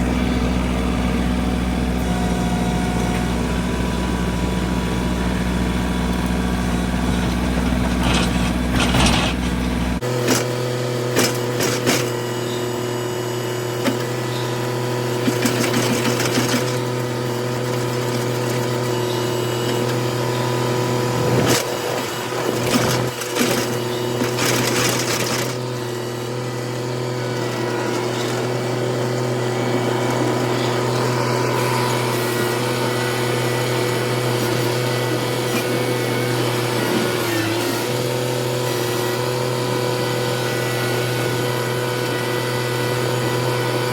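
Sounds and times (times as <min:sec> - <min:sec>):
small tractor engine running: 0:00.0 - 0:43.9.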